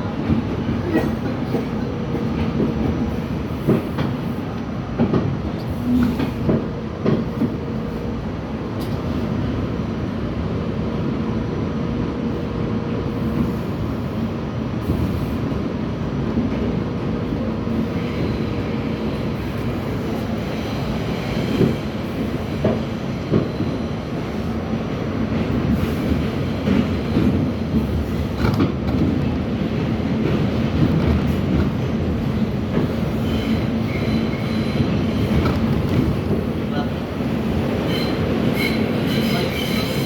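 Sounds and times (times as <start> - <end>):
subway train rumbling: 0.0 - 40.0.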